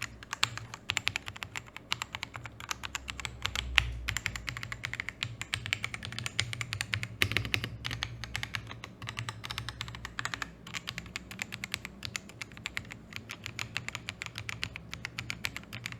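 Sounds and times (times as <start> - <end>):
fast typing on mechanical keyboard: 0.0 - 15.9.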